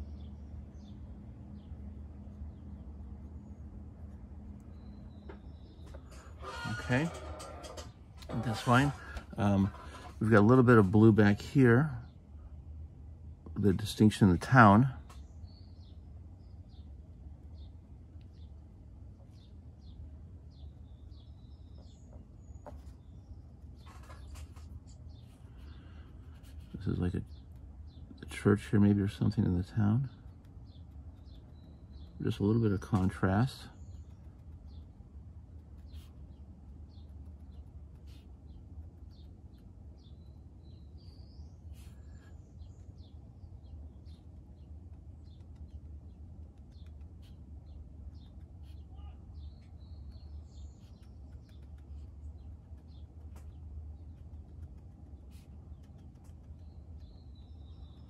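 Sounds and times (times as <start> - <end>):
small bird chirping: 0.0 - 12.2, 13.8 - 58.0
steady low hum: 0.0 - 58.0.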